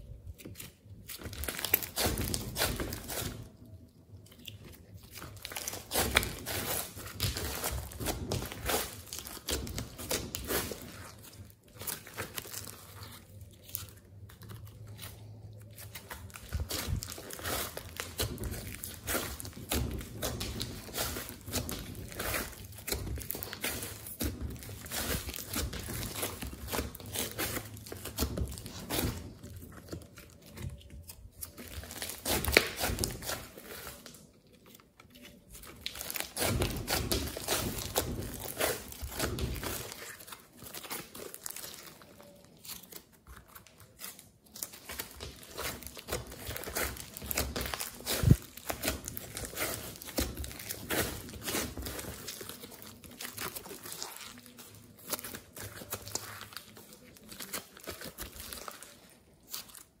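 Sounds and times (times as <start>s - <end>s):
slime crackling being kneaded: 0.0s - 60.0s.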